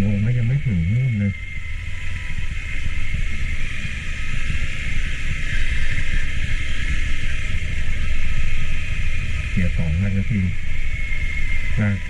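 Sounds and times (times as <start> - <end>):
even hiss: 0.0 - 12.0
vehicle engine and tyres rumbling: 0.0 - 12.0.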